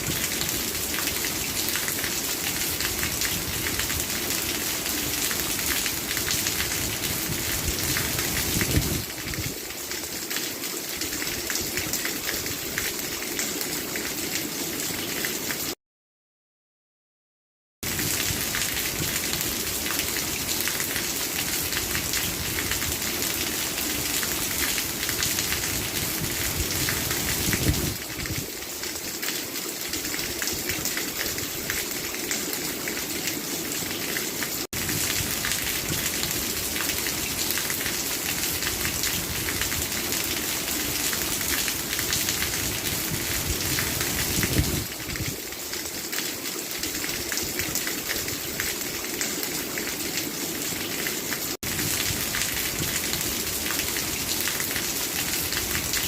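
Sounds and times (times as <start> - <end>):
steady rainfall: 0.0 - 15.8, 17.8 - 56.0.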